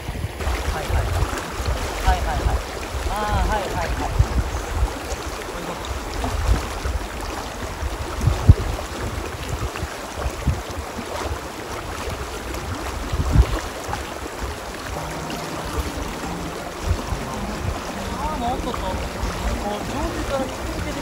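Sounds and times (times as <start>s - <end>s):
river running over gravel: 0.3s - 21.0s.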